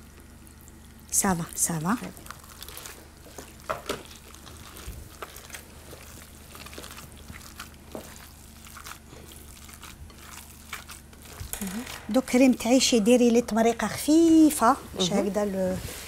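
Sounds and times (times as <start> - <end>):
meat squishing: 0.0 - 14.6.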